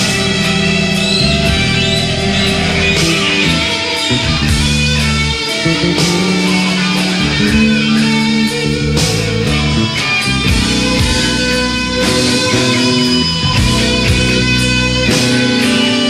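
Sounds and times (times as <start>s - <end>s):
electric guitar solo with band: 0.0s - 16.0s.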